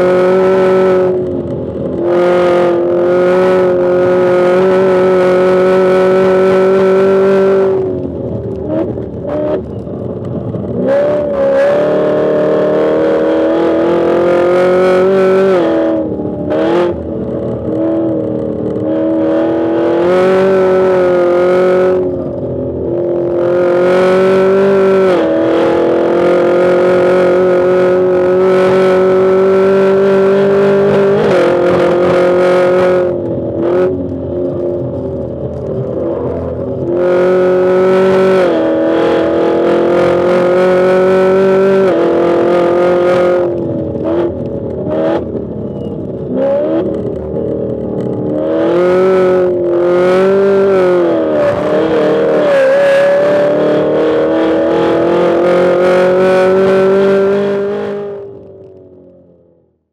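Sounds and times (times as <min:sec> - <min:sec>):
car engine revving hard: 0:00.0 - 0:09.7, 0:10.8 - 0:17.1, 0:17.7 - 0:22.2, 0:22.8 - 0:34.0, 0:35.8 - 0:45.6, 0:46.3 - 0:58.5.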